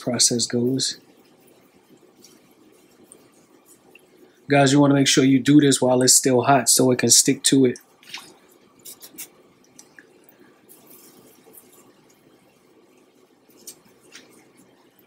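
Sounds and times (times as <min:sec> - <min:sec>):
sugar pattering on pastry: 0:00.0 - 0:05.6, 0:07.7 - 0:15.0.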